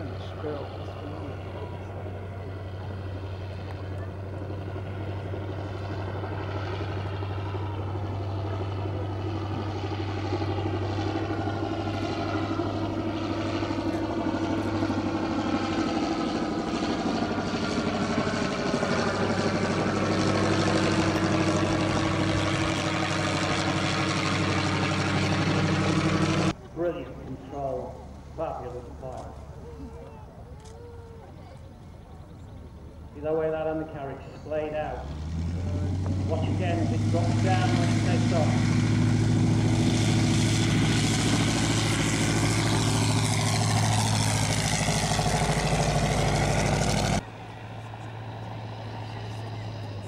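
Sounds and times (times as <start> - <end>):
light aircraft engine drone: 0.0 - 50.0.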